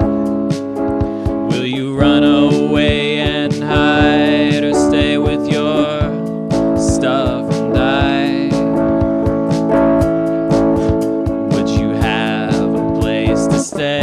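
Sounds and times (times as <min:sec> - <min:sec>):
gliding melodic lead line: 0:00.0 - 0:14.0
steady drum beat: 0:00.0 - 0:14.0
strummed acoustic guitar: 0:00.0 - 0:14.0.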